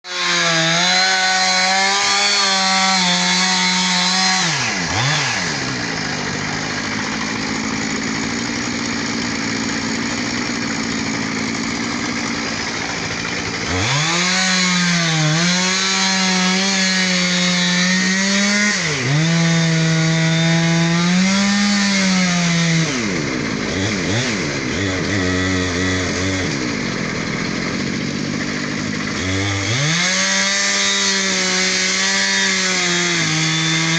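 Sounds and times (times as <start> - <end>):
chainsaw cutting into trunk: 0.1 - 33.9.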